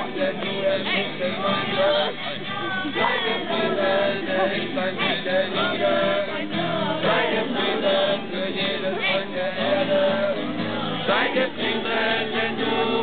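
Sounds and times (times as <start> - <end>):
group singing worship song: 0.0 - 13.0.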